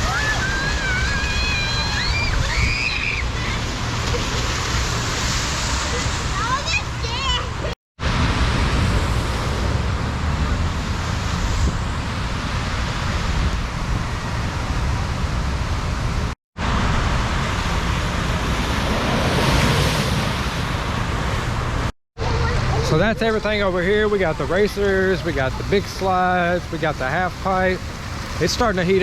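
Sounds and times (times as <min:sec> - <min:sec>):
rushing water: 0:00.0 - 0:29.0
wind buffeting microphone: 0:00.0 - 0:29.0.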